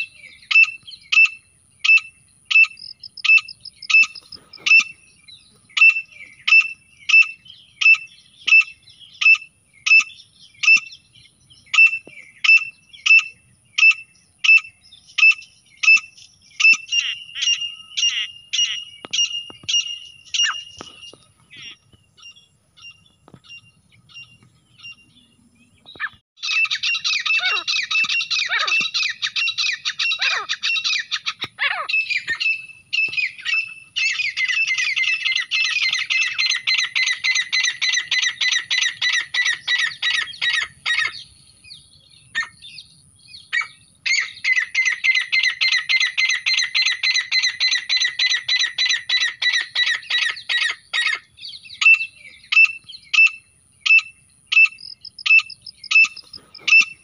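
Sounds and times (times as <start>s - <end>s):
francolins calling: 0.0s - 57.0s.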